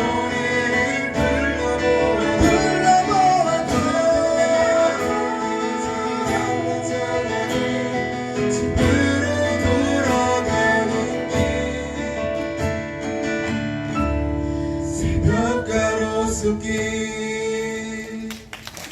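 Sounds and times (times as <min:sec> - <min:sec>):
person singing a slow ballad: 0:00.0 - 0:18.5
guitar accompaniment: 0:00.0 - 0:18.6.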